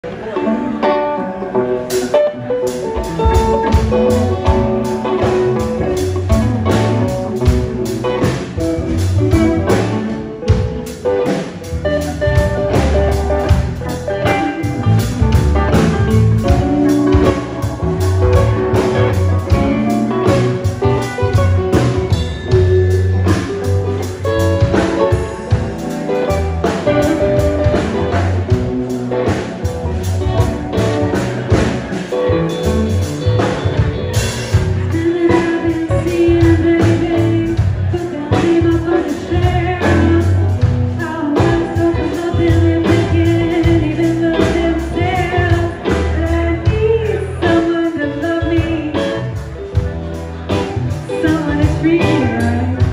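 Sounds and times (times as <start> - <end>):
bass guitar: 0.0 - 52.9
electric guitar: 0.0 - 52.9
steady drum beat: 2.7 - 47.1.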